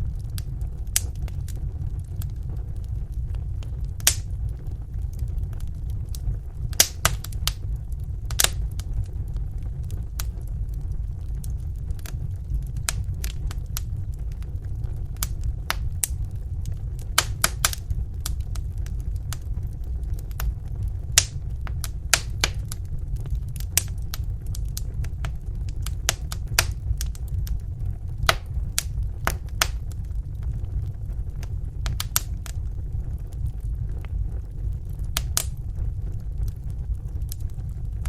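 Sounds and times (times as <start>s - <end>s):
fireplace fire crackling: 0.0s - 38.0s
low rumble of flames: 0.0s - 38.0s.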